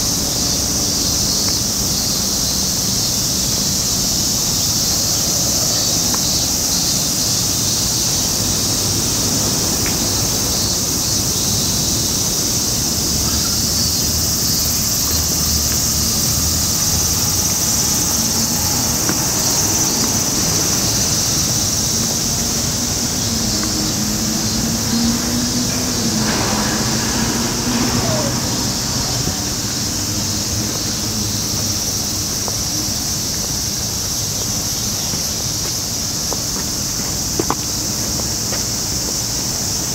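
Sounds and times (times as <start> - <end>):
cicadas chorus in trees: 0.0 - 39.9
city traffic rumble: 0.0 - 39.9.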